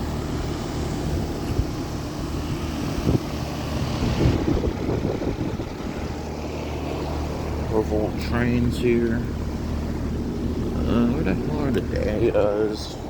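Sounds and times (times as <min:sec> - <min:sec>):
air conditioner hum: 0:00.0 - 0:13.0
wind buffeting microphone: 0:01.0 - 0:13.0.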